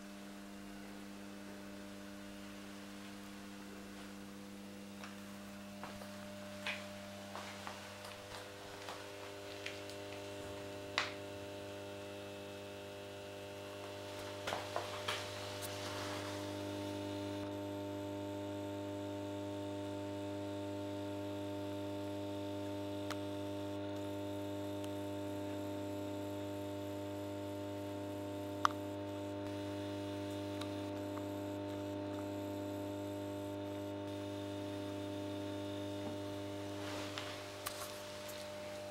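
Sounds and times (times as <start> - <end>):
lamp ballast humming: 0.0 - 38.9.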